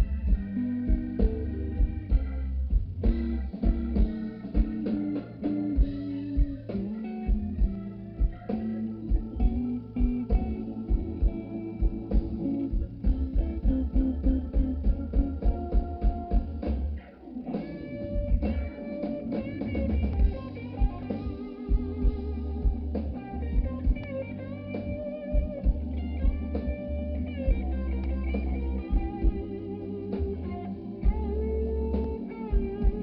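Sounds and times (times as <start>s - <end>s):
blues band playing: 0.0s - 33.0s
electric guitar lead: 0.0s - 33.0s.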